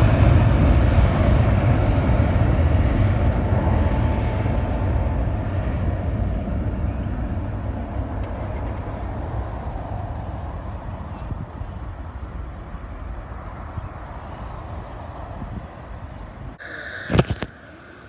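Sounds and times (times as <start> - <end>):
aircraft engine rumble: 0.0 - 18.0.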